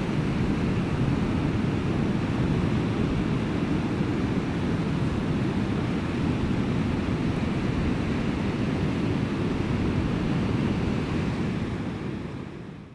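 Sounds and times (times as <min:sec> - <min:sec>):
wind noise on microphone: 0:00.0 - 0:12.9.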